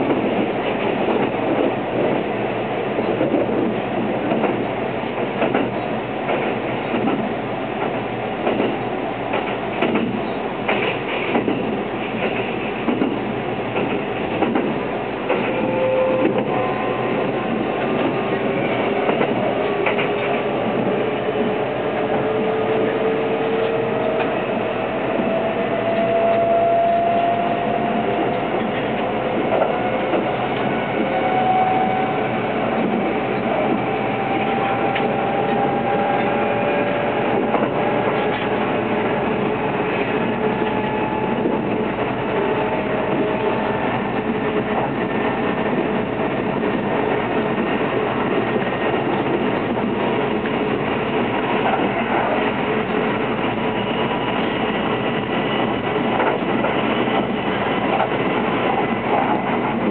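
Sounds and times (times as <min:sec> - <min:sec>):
rail running noise: 0:00.0 - 0:59.9.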